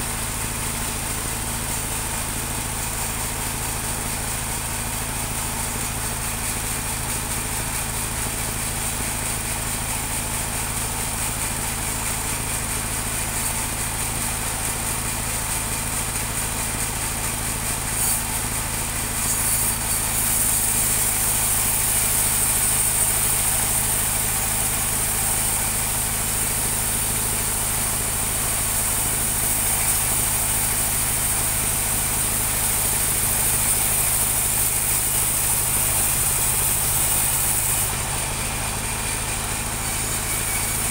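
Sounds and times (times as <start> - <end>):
sawmill motor humming: 0.0 - 40.9.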